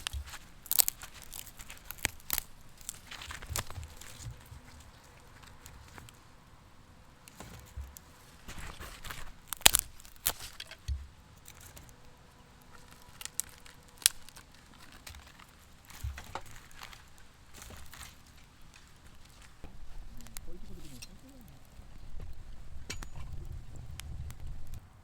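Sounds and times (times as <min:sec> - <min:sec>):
faint rustling: 0:00.0 - 0:25.0.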